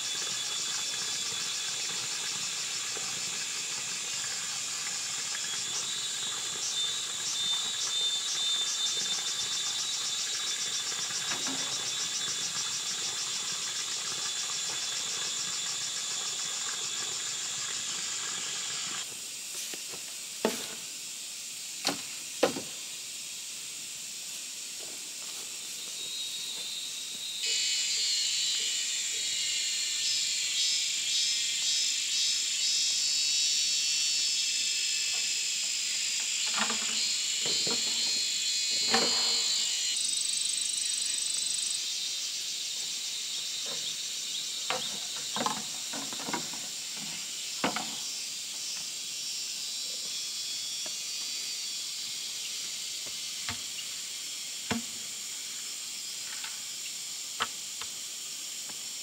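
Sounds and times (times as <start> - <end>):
insects chorus pulsing: 0.0 - 59.0.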